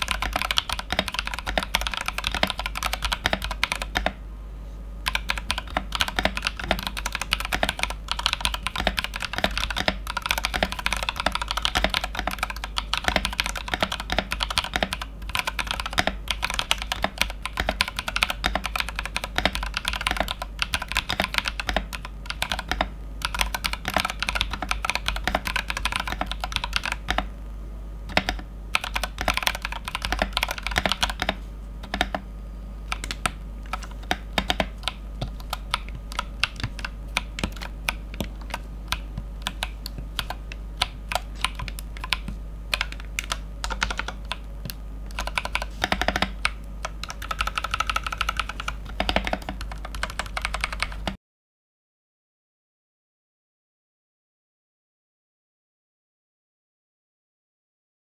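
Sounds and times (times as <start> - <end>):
mechanical keyboard typing: 0.0 - 4.2, 5.0 - 27.3, 28.1 - 32.2, 32.9 - 51.2.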